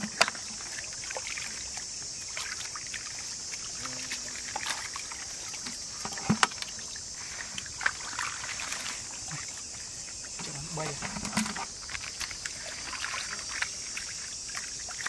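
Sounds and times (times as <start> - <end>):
water dribbling and trickling: 0.0 - 15.0
water sloshing and splashing: 0.0 - 15.0.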